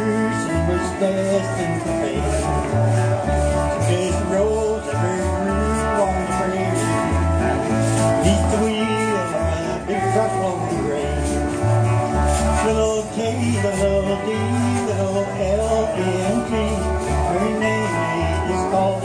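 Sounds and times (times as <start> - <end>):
electric bass line: 0.0 - 19.0
guitars: 0.0 - 19.0
steel guitar sliding notes: 0.0 - 19.0.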